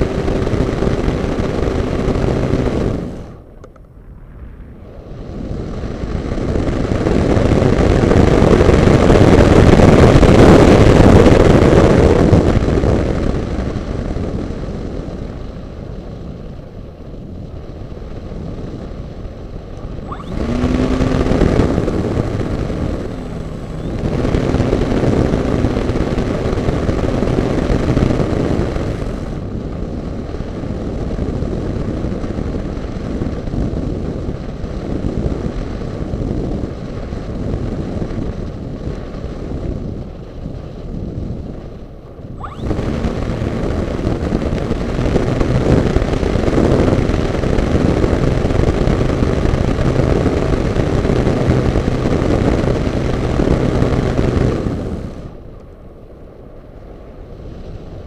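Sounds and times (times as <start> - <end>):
model motor and propeller hum: 0.0 - 58.0
wind rushing over camera: 0.0 - 58.0.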